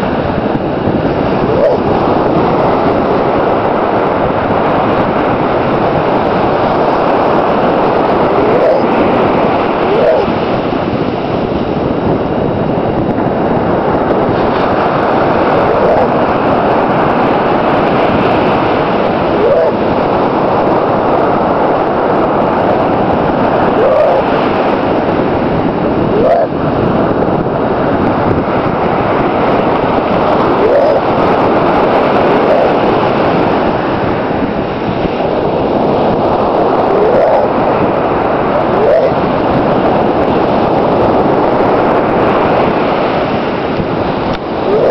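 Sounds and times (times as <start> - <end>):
wind and surf: 0.0 - 44.9.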